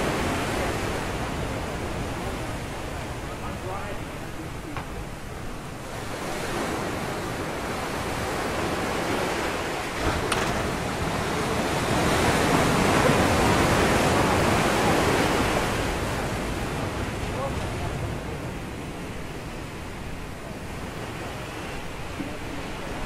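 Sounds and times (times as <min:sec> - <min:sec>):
ocean surf breaking on boulders: 0:00.0 - 0:23.0.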